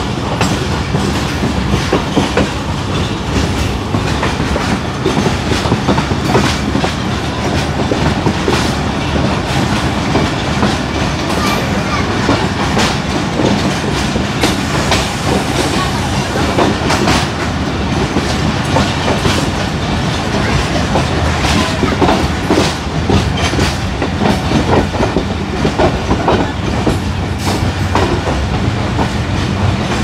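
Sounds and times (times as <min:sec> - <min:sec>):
train rumble: 0:00.0 - 0:30.0
train wheels clattering: 0:00.0 - 0:30.0.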